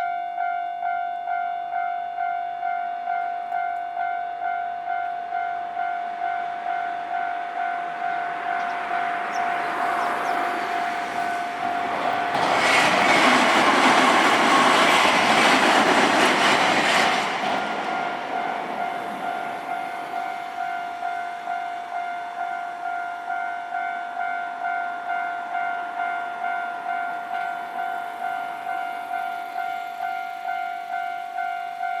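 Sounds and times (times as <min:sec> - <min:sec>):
level crossing warning bell: 0:00.0 - 0:12.4, 0:13.5 - 0:32.0
train passing rumble: 0:02.6 - 0:32.0.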